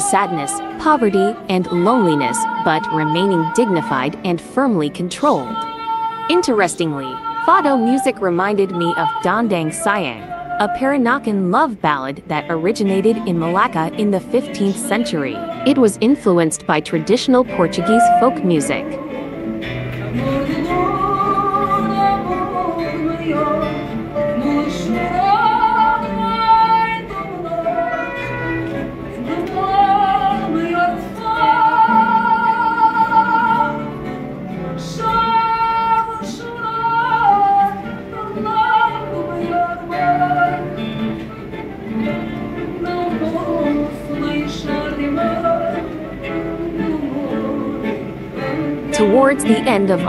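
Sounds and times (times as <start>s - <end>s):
woman singing with vibrato: 0.0s - 19.4s, 20.1s - 34.1s, 34.7s - 41.0s, 42.0s - 50.0s
plucked guitar: 0.0s - 50.0s.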